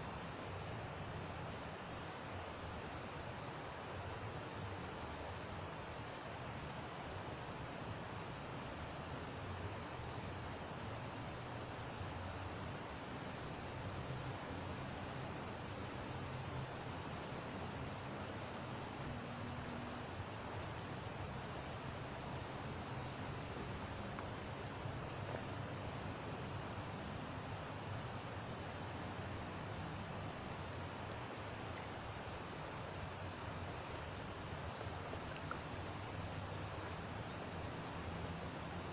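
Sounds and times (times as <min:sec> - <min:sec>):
background hiss: 0:00.0 - 0:38.9
insects droning: 0:00.0 - 0:38.9.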